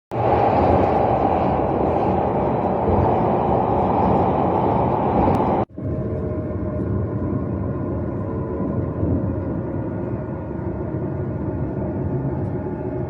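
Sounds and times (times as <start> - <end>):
train running rumble: 0.1 - 13.0.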